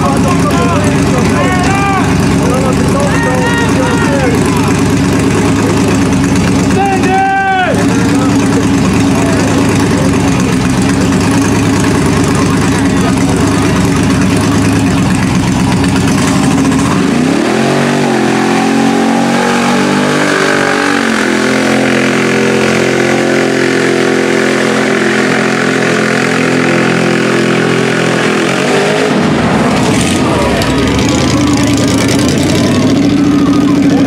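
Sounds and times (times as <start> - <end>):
truck churning through mud: 0.0 - 34.0
truck engine revving: 0.0 - 34.0.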